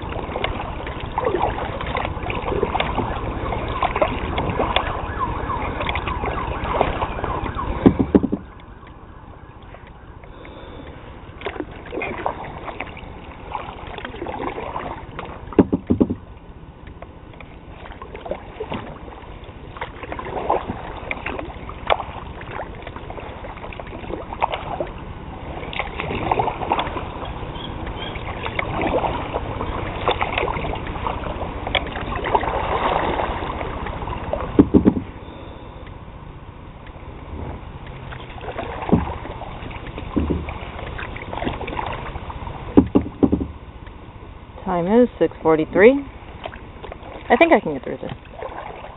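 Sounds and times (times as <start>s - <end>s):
paddle strokes splashing in water: 0.0s - 36.0s, 36.7s - 48.9s.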